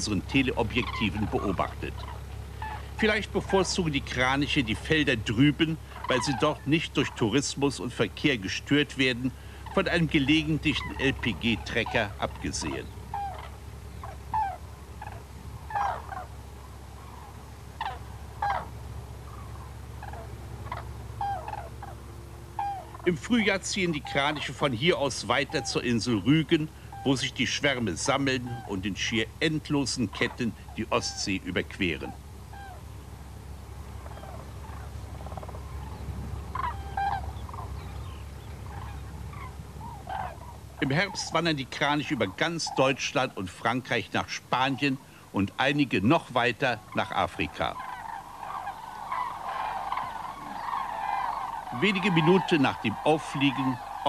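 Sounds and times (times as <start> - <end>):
cranes trumpeting calls: 0.0 - 54.0
steady low hum: 0.0 - 54.0.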